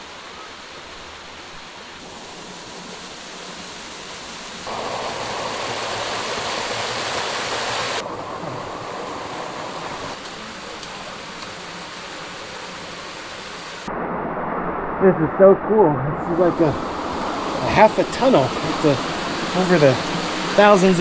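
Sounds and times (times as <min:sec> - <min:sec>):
rushing waterfall water: 0:00.0 - 0:21.0.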